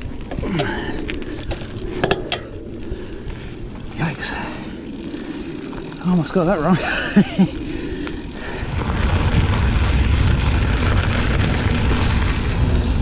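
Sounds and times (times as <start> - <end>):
bike tyres rolling on dirt: 0.0 - 13.0
wind rumbling on microphone: 0.0 - 13.0.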